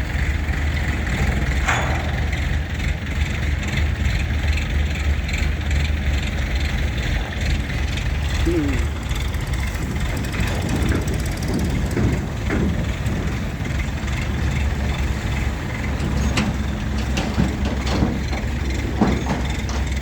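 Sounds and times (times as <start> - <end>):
heavy machinery rumbling: 0.0 - 20.0
metallic knocks: 0.6 - 5.1, 7.6 - 20.0.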